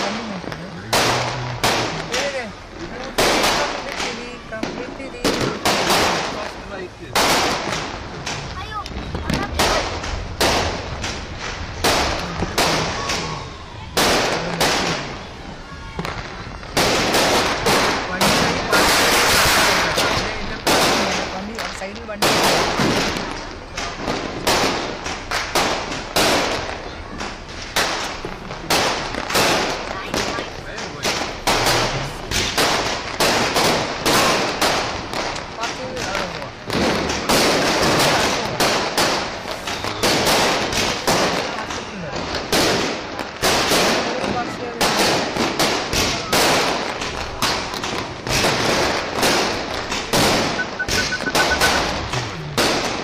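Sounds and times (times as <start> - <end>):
firework bangs echoing: 0.0 - 53.0.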